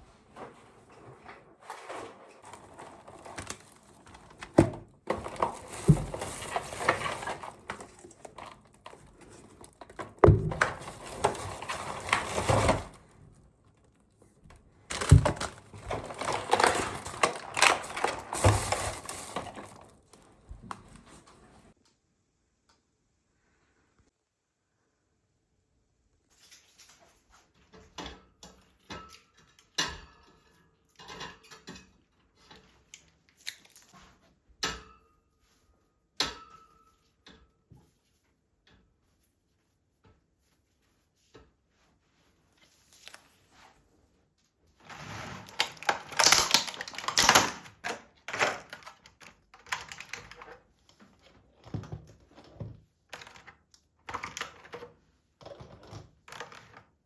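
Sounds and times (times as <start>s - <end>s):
clatter and rustle: 0.0s - 21.8s, 26.3s - 57.0s.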